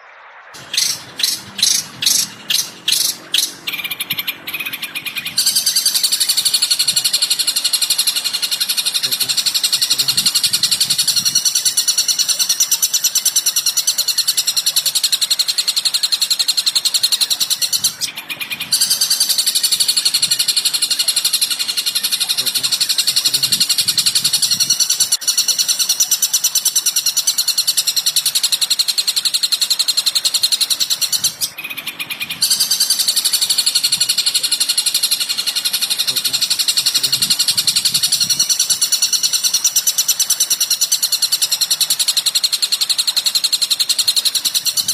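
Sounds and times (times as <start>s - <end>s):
songbird chirping rapidly: 0.0s - 44.9s.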